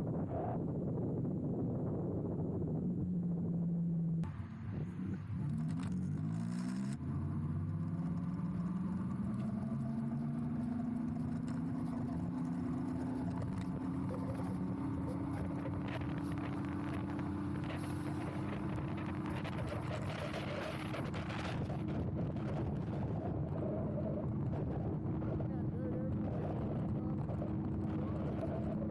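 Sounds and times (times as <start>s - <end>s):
wind and road noise: 0.0s - 28.9s.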